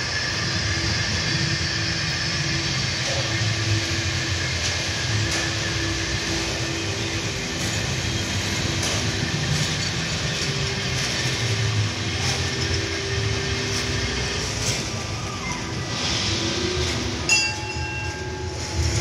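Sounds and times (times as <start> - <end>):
ride machinery rumble and hiss: 0.0 - 19.0.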